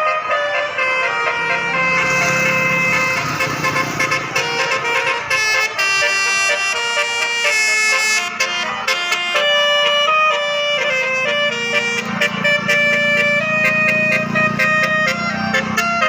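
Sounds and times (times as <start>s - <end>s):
musical air horn tune: 0.0s - 16.0s.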